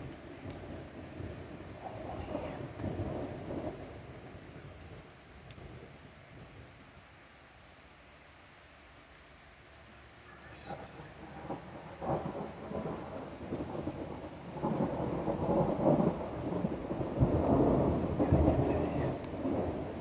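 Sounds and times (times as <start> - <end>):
thunder rumbling with crackles: 0.0 - 7.0, 9.8 - 20.0.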